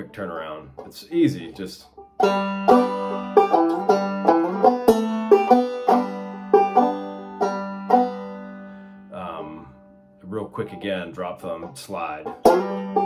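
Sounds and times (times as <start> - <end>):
banjo picking: 0.0 - 13.0.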